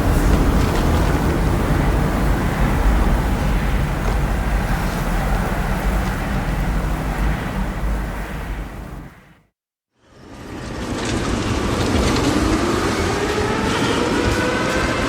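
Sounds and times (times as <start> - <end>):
rumbling rush of wind: 0.0 - 9.5, 10.1 - 15.0.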